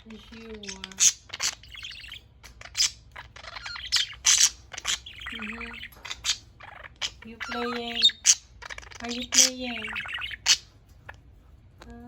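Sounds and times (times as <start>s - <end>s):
budgerigars chirping: 0.0s - 11.3s.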